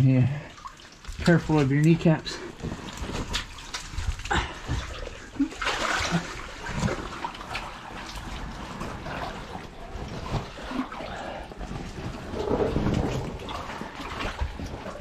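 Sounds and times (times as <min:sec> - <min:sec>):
shallow water sloshing and splashing: 0:00.0 - 0:15.0
water gurgling: 0:00.0 - 0:15.0.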